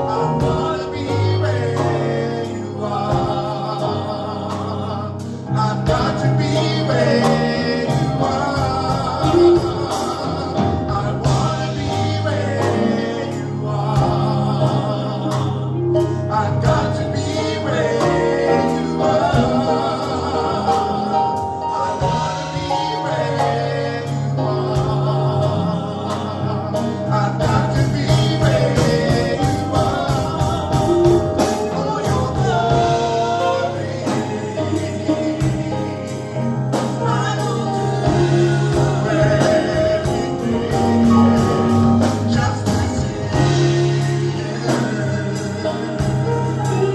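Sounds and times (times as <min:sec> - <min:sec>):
gospel band with choir: 0:00.0 - 0:46.9
drums beating: 0:00.4 - 0:01.4, 0:03.0 - 0:04.0, 0:05.8 - 0:15.7, 0:16.3 - 0:23.5, 0:24.6 - 0:46.9.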